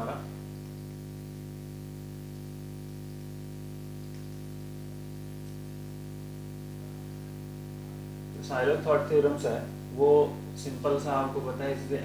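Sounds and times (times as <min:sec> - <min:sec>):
buzzy electrical mains hum: 0:00.0 - 0:12.0.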